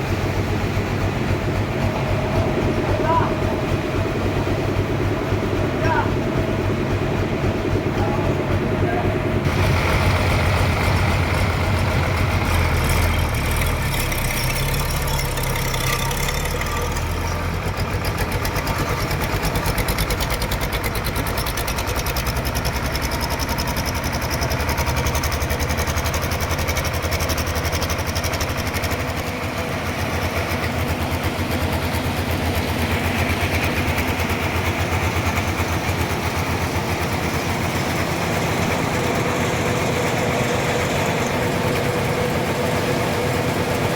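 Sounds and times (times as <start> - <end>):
engine-driven saw running: 0.0 - 43.9.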